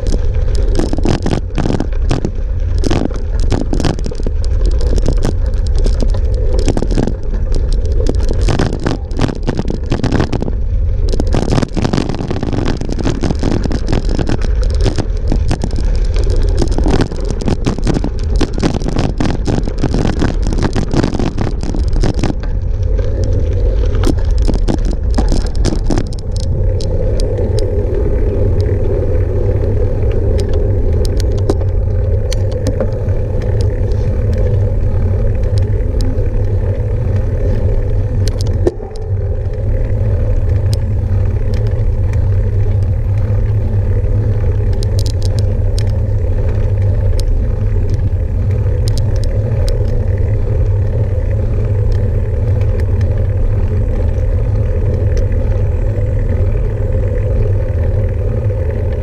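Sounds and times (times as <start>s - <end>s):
light clicks and rattles: 0.0s - 59.0s
vehicle rumble on concrete road: 0.0s - 59.0s
wind buffeting microphone: 0.0s - 59.0s.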